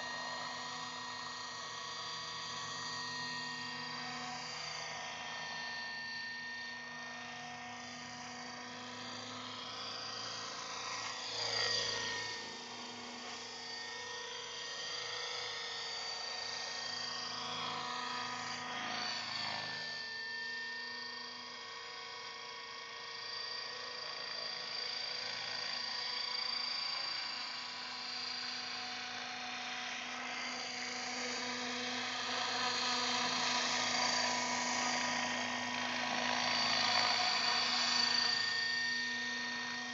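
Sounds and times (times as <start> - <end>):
model helicopter whine: 0.0 - 39.9.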